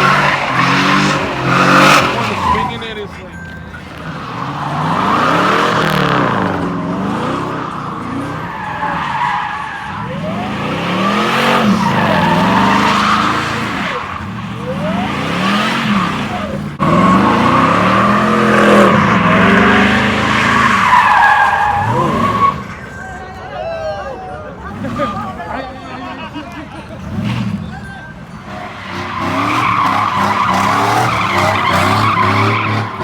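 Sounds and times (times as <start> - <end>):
truck engine revving: 0.0 - 23.0, 26.3 - 33.0
tyres squealing and hissing: 0.0 - 23.3, 27.4 - 33.0.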